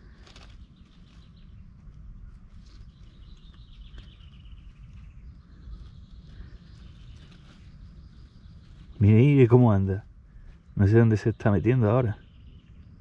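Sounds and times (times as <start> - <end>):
distant birds calling: 0.0 - 13.0
low rumble on microphone: 0.0 - 13.0.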